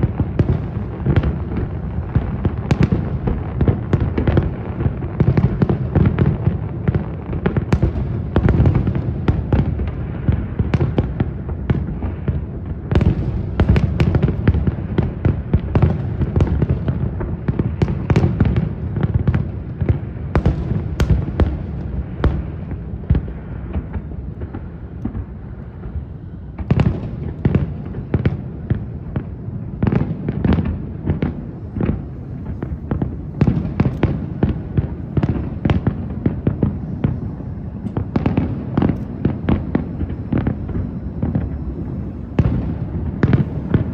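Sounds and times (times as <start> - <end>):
fireworks bangs and booms: 0.0 - 43.9.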